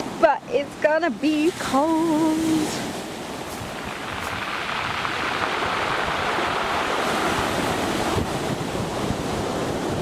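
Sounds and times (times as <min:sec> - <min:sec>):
sea waves breaking on shore: 0:00.0 - 0:10.0
wind buffeting microphone: 0:00.0 - 0:10.0.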